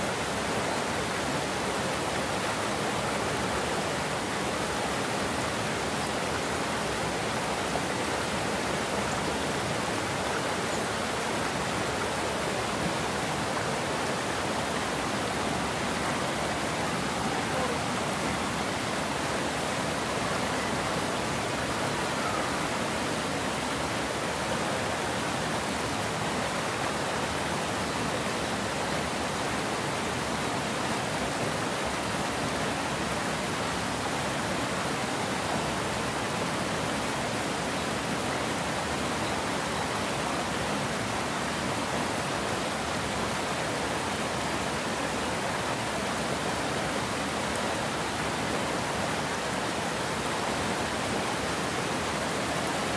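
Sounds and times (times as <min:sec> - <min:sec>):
water rushing over a weir: 0:00.0 - 0:52.9.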